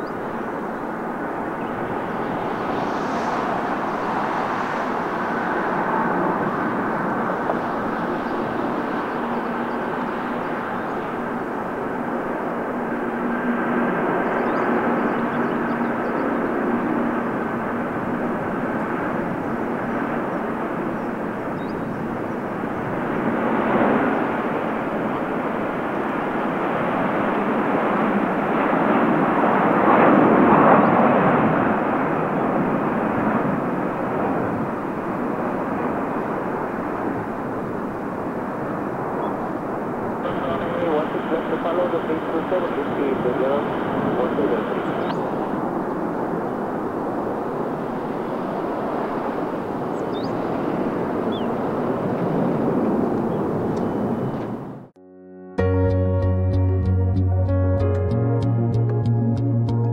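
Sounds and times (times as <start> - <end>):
faint engine whine: 0.0 - 28.8, 31.8 - 51.5
jet engines rushing: 0.0 - 55.0.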